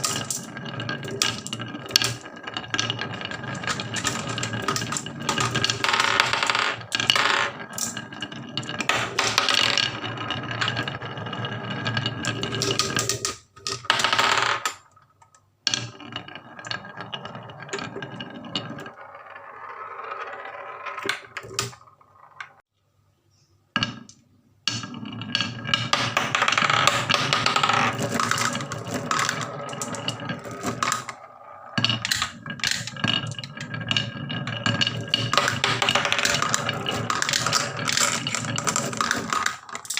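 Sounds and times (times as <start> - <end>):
marbles rattling on wooden run: 0.0 - 22.6, 24.7 - 39.9.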